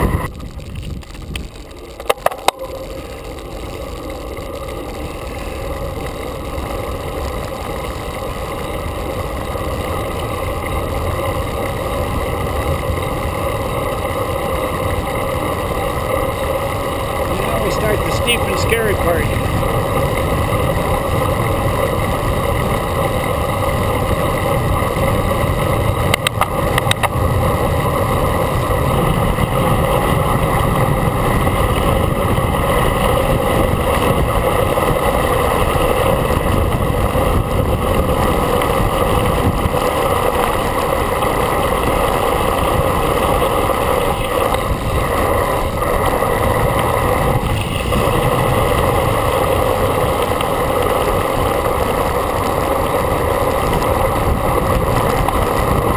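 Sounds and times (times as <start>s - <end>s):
wind buffeting microphone: 0.0s - 55.9s
quick bike clicks: 0.1s - 55.9s.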